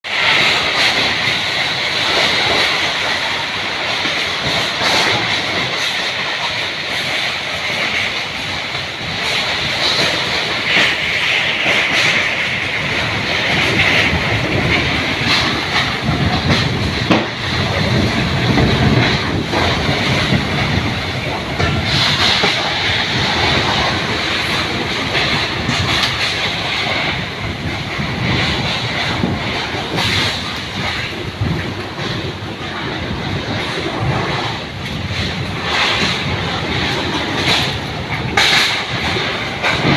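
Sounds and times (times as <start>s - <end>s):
strong wind hissing: 0.0s - 39.9s
wind gusts on microphone: 0.0s - 39.9s.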